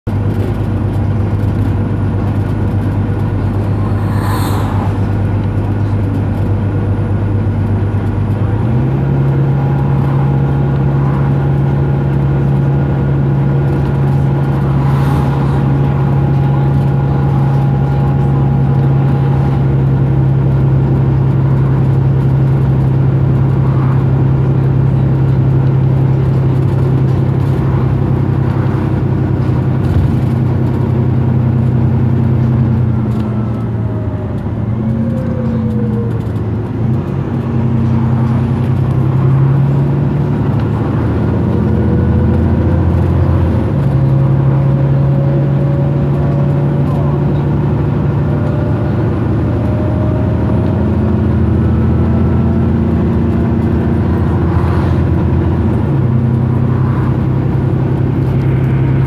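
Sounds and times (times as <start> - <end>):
bus diesel engine revving: 0.2 - 59.0.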